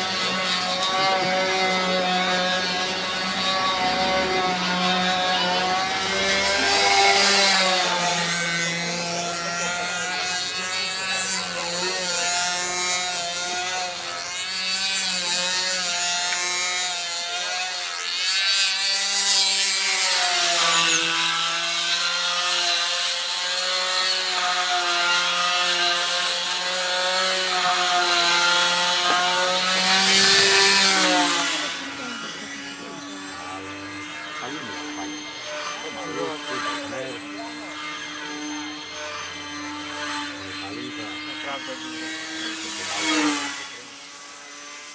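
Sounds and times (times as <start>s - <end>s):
model aircraft engine buzzing: 0.0s - 44.9s.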